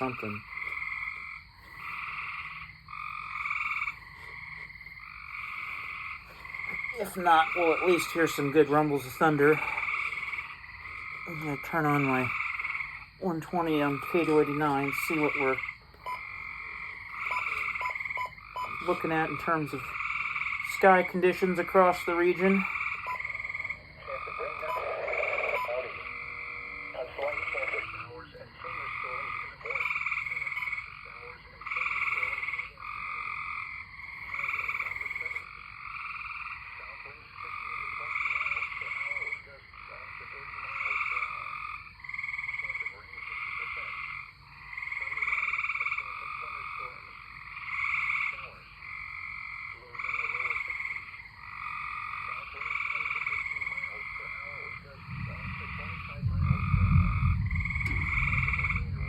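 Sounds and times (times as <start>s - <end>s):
tree frogs trilling: 0.0s - 59.0s.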